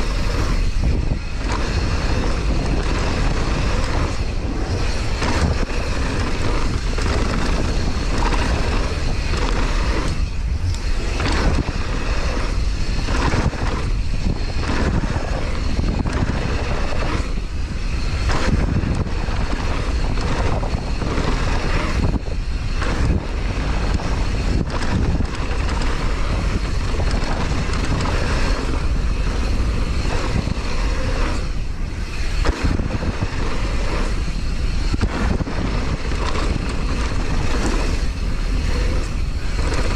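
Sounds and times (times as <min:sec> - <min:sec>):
bike tyres on trail: 0:00.0 - 0:39.9
wind rushing over microphone: 0:00.0 - 0:39.9.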